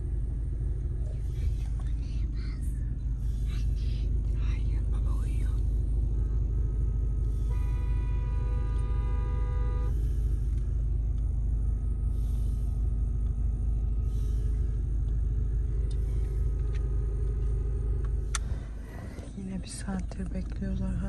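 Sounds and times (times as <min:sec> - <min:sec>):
car idling low rumble: 0:00.0 - 0:21.0.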